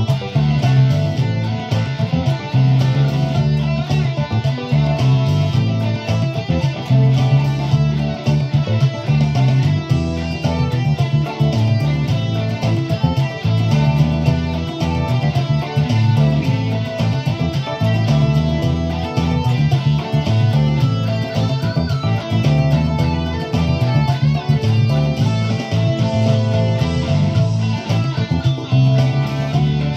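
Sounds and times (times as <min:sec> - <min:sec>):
drum beat: 0:00.0 - 0:29.9
electric guitar boogie: 0:00.0 - 0:29.9
pulsing bass line: 0:00.0 - 0:29.9.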